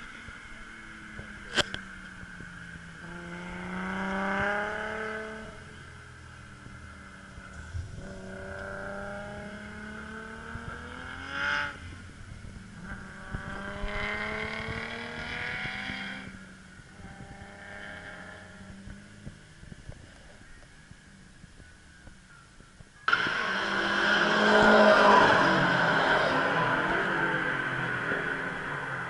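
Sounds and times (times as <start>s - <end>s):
car engine accelerating hard: 0.0s - 20.0s, 23.1s - 29.0s.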